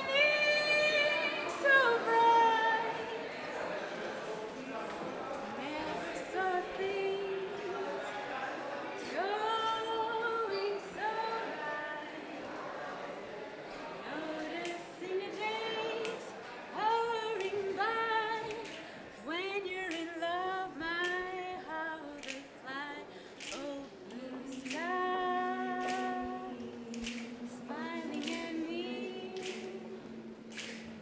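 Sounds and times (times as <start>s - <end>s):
woman singing unaccompanied: 0.0s - 3.4s, 5.6s - 8.2s, 9.0s - 12.4s, 14.0s - 31.0s.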